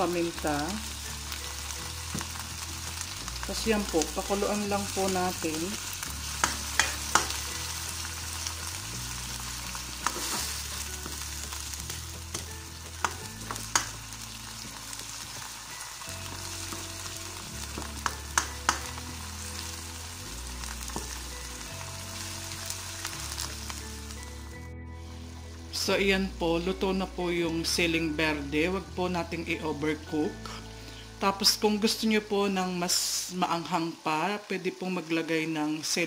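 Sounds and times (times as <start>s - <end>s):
food sizzling in a wok: 0.0s - 36.0s.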